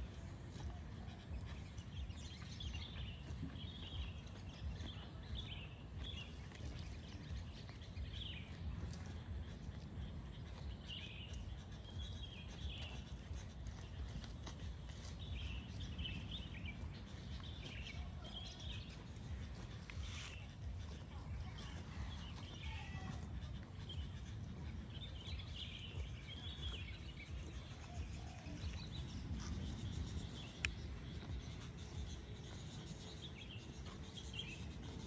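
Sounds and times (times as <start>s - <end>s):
small birds twittering: 0.0s - 35.0s
steady low rumble: 0.0s - 35.0s.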